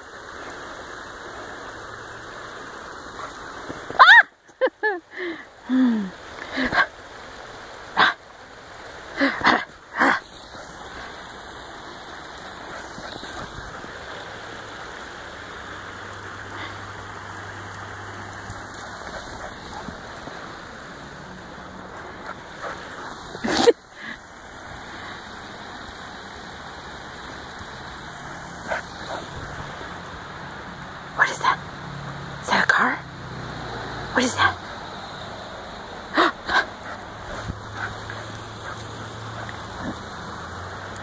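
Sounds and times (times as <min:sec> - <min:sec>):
creek rushing: 0:00.0 - 0:41.0.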